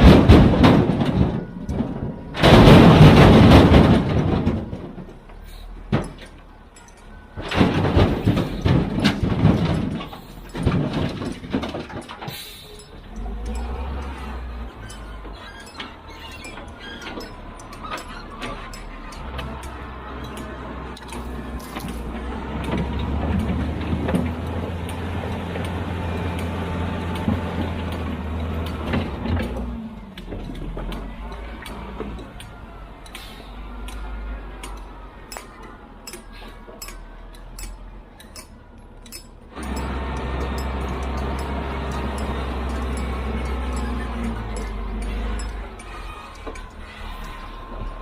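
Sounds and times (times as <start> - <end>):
diesel engine drone: 0.0 - 48.0
metallic clanks and squeaks: 0.0 - 48.0.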